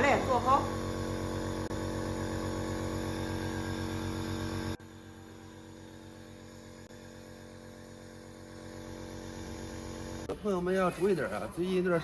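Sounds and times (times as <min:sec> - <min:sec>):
compressor nebulizer buzzing hum: 0:00.0 - 0:12.0.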